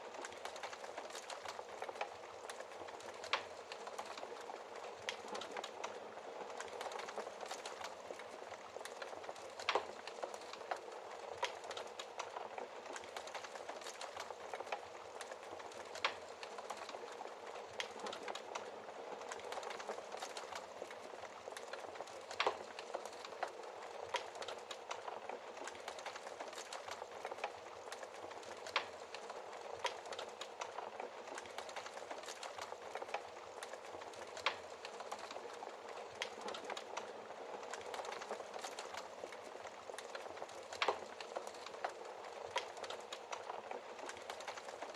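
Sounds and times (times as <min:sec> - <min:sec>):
fire crackling and hissing: 0:00.0 - 0:44.9
fire popping: 0:00.1 - 0:44.9.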